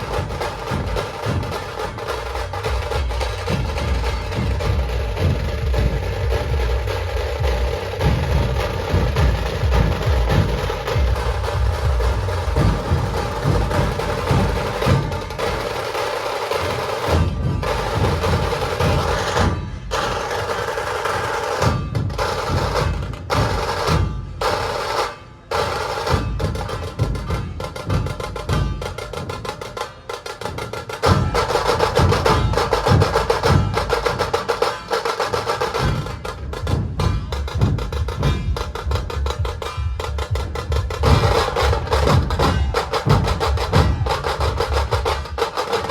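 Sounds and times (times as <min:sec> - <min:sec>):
large barrel drums beating: 0:00.0 - 0:45.9
rapid small drum rolls: 0:00.0 - 0:45.9.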